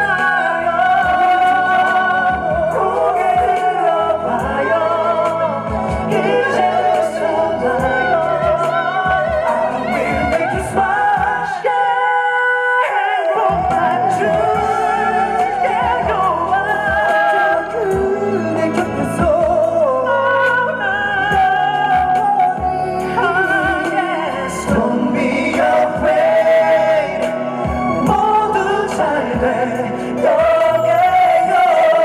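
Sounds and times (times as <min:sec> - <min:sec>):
man singing a ballad: 0:00.0 - 0:32.0
musical accompaniment: 0:00.0 - 0:32.0.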